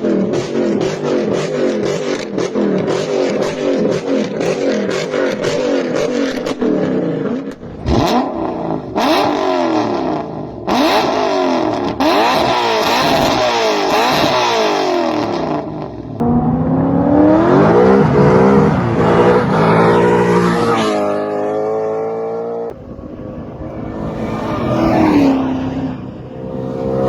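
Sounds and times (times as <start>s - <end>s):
car engine revving hard: 0.0s - 22.8s.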